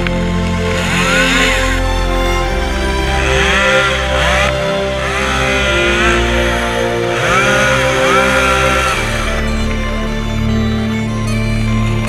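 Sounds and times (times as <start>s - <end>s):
chainsaw revving: 0.4s - 10.6s.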